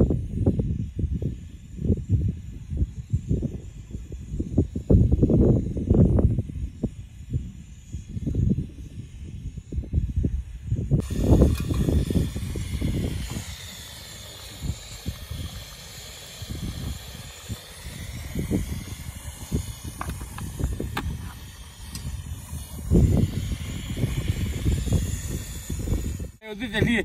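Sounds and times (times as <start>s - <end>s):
gas burner hissing: 0.0s - 27.0s
wind buffeting microphone: 0.0s - 27.0s.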